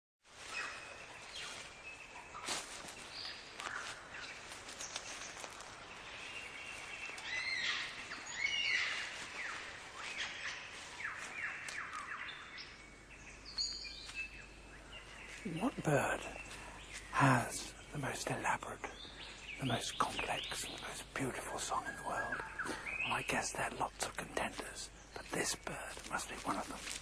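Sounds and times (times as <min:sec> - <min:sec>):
lyrebird singing: 0:00.5 - 0:27.0.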